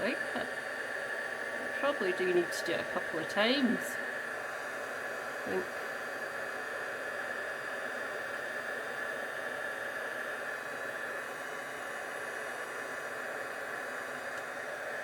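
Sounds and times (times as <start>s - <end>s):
heat gun blowing: 0.0s - 15.0s.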